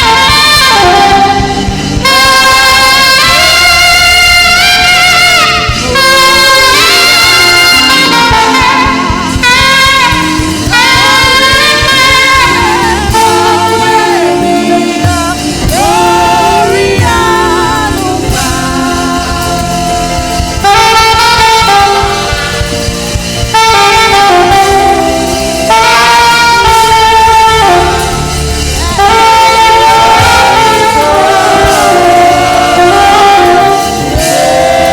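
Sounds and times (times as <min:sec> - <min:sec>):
backing music: 0:00.0 - 0:34.9
saxophone melody with vibrato: 0:00.0 - 0:34.9.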